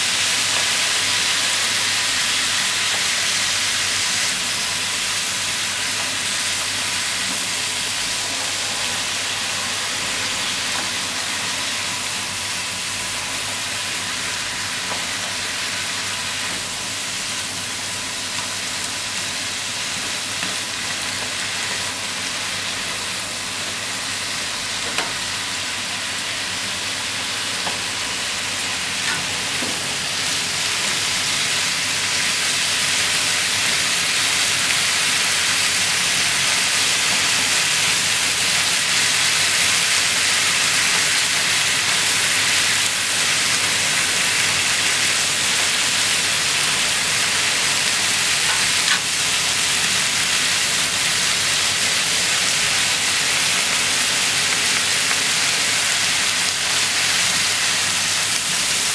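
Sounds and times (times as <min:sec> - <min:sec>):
food sizzling in a frying pan: 0:00.0 - 0:58.9.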